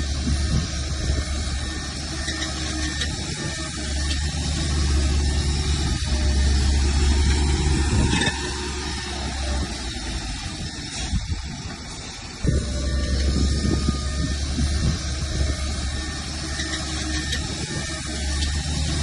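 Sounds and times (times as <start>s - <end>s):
heavy diesel engine droning: 0.0s - 19.0s.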